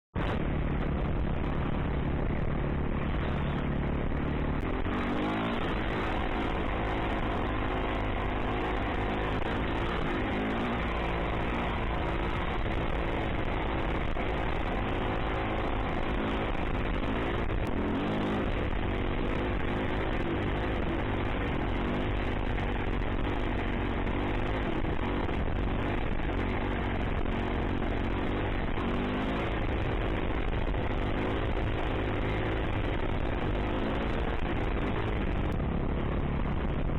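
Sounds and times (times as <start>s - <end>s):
dirt bike engine revving: 0.2s - 35.6s.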